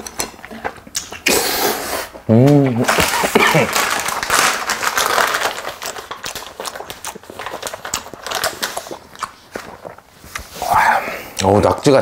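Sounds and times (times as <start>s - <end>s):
wet crackly chewing: 2.1s - 11.9s.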